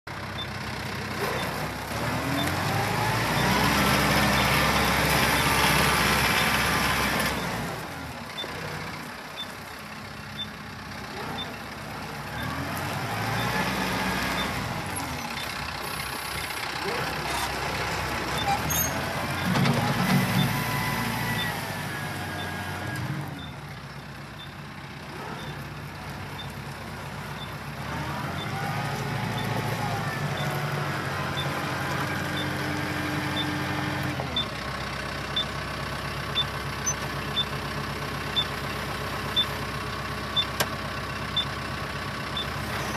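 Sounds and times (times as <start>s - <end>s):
tractor diesel engine driving past: 0.1s - 42.9s.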